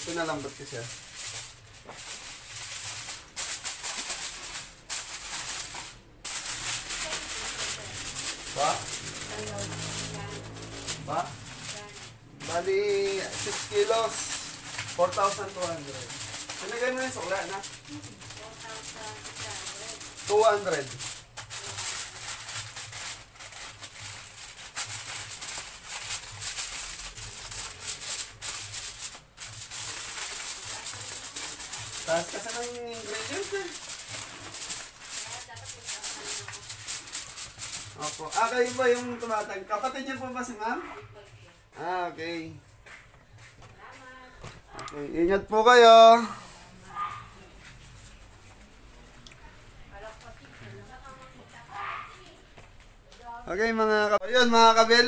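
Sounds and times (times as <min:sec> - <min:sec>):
aluminium foil crinkling: 0:00.0 - 0:42.6, 0:43.8 - 0:52.4.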